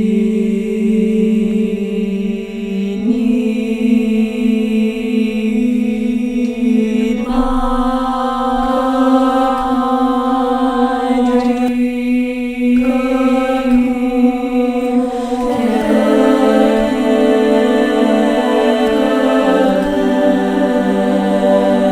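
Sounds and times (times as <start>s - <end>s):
steady vocal drone: 0.0s - 21.9s
voices singing held notes: 0.0s - 21.9s.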